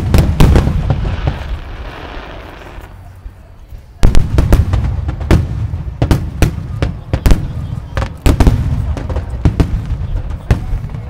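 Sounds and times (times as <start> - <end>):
firework stars crackling: 0.0 - 11.0.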